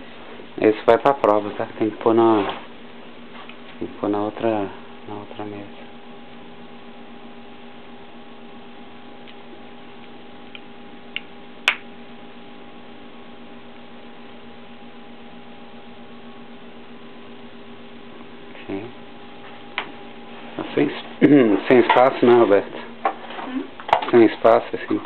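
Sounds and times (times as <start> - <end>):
electrical room hum: 0.0 - 25.0.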